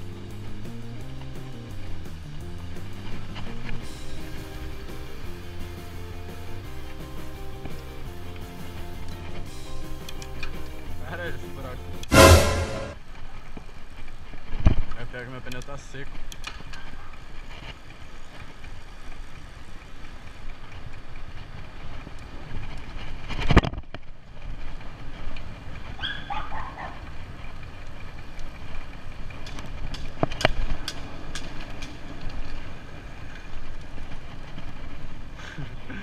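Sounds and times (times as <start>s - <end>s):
bicycle tyre and road noise: 0.0s - 11.9s, 13.0s - 36.0s.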